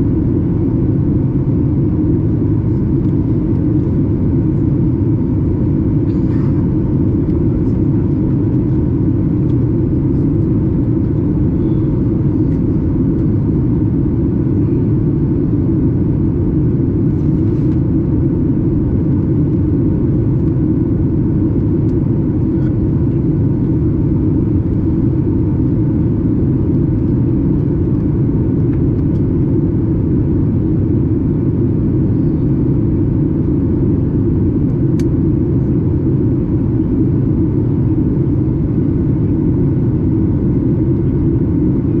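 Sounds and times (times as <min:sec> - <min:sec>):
airplane engines and airflow rumble: 0:00.0 - 0:42.0
faint steady hum: 0:00.0 - 0:42.0.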